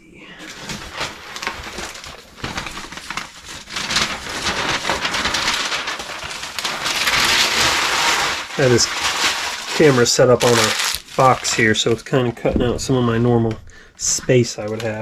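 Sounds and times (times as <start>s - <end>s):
plastic packing material crinkling: 0.4s - 15.0s.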